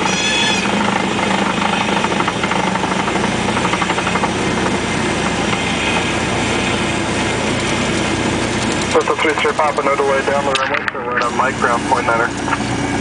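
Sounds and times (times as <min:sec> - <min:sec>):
airframe and wind noise: 0:00.0 - 0:13.0
airplane piston engine running: 0:00.0 - 0:13.0.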